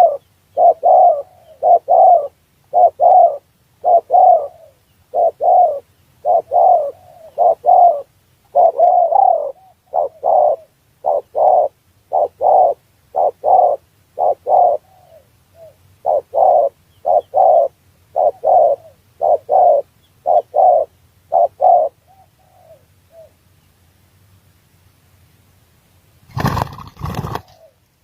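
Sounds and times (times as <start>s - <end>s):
dove cooing: 0.0s - 23.4s, 26.3s - 27.8s.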